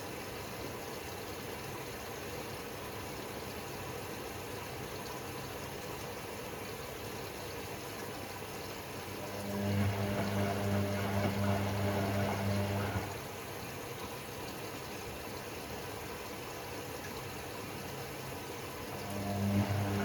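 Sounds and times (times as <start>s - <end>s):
washing machine pump hum: 0.0s - 20.0s
washing machine water rushing: 0.0s - 20.0s.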